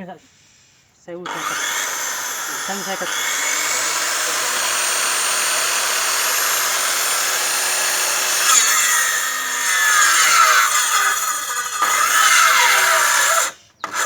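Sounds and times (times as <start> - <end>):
circular saw cutting firewood: 1.2 - 14.0.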